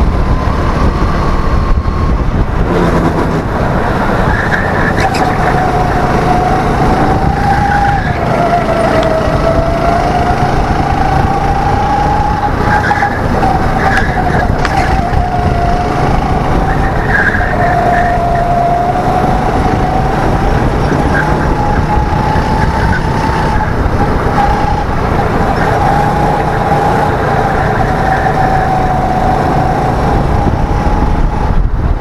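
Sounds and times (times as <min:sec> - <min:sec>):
go-kart engine running: 0:00.0 - 0:32.0.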